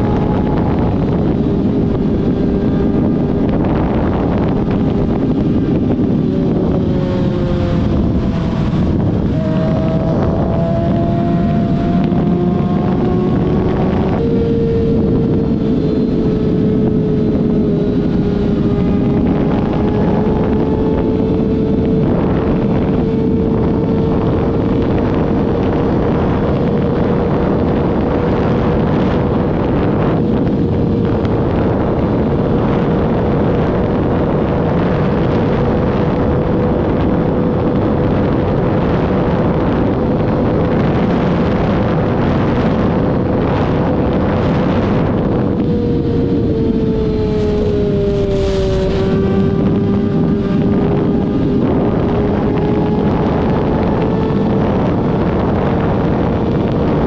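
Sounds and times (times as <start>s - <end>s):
vehicle engine droning: 0.0s - 57.0s
wind rush on microphone: 0.0s - 57.0s.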